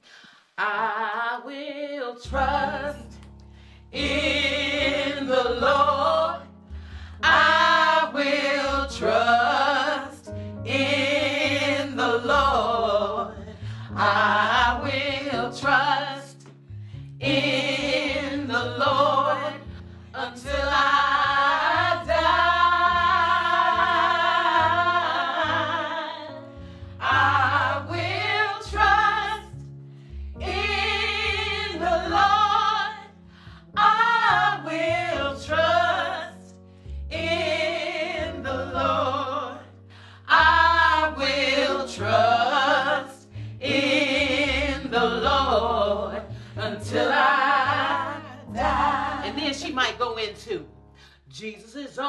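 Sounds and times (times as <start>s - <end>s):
women singing gospel: 0.1s - 3.2s, 3.9s - 16.6s, 17.2s - 29.6s, 30.3s - 36.5s, 37.1s - 49.9s
low held bass notes: 2.3s - 51.1s.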